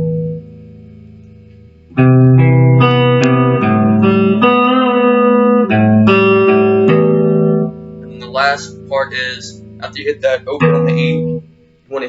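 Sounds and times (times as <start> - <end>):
guitar picking single notes: 0.0 - 12.0.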